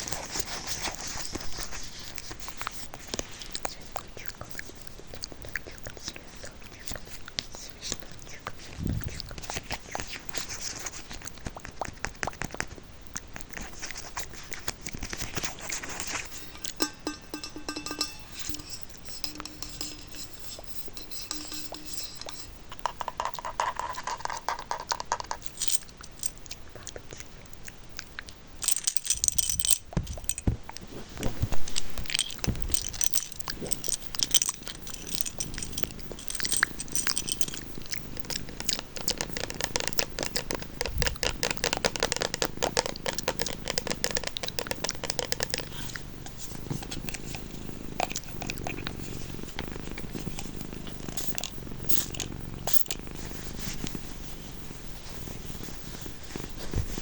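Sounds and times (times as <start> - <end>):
small clicks taps and crackles: 0.0 - 54.1.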